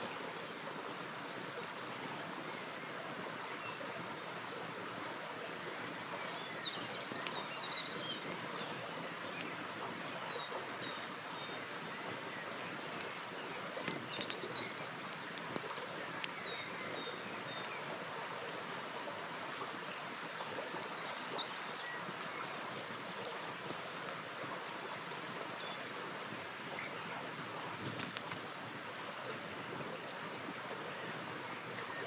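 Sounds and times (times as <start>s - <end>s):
river water flowing: 0.0s - 32.0s
campfire crackling: 0.2s - 24.6s, 25.4s - 29.0s.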